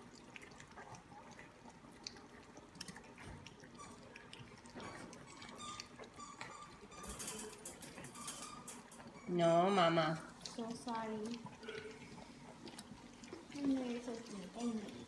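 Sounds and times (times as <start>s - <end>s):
puppies lapping and licking: 0.0s - 15.0s.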